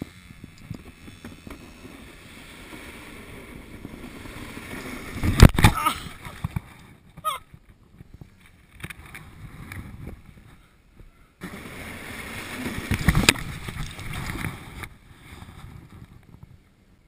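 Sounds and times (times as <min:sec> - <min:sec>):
plastic kayak scraping over snow: 0:00.0 - 0:07.1, 0:07.9 - 0:10.6, 0:11.4 - 0:16.6
kayak thumping in snow: 0:00.6 - 0:10.2, 0:11.4 - 0:16.6.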